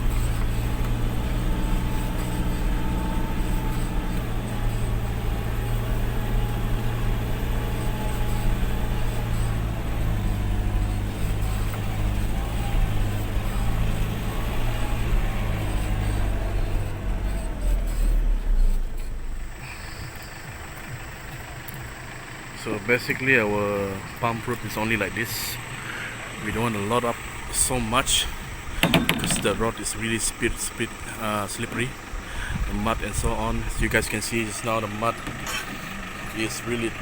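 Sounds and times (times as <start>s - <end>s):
vehicle engine droning: 0.0s - 37.0s.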